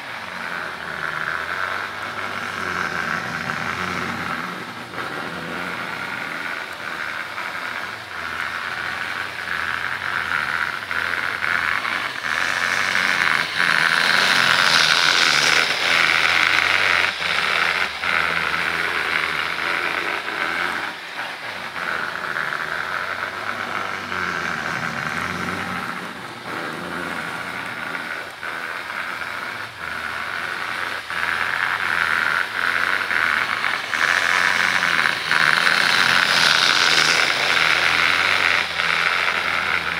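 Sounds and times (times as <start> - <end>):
model train motor whirring: 0.0 - 39.9
wheels clicking over rail joints: 0.0 - 39.9.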